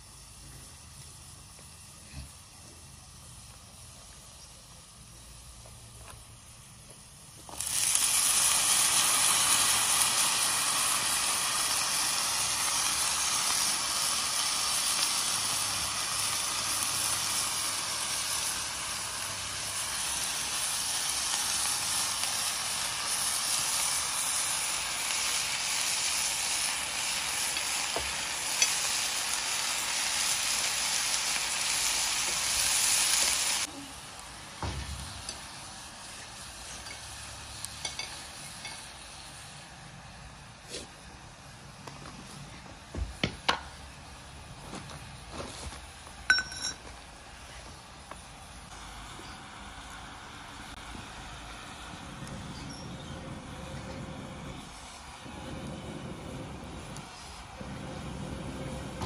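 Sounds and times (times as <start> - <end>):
vegetables sizzling in oil: 0.0 - 59.0.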